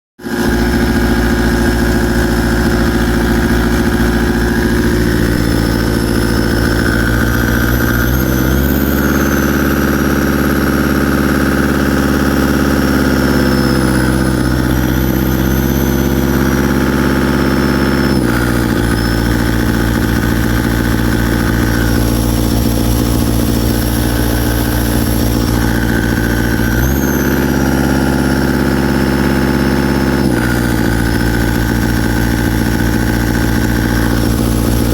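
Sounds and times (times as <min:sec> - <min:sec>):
diesel engine revving and misfiring: 0:00.2 - 0:34.9.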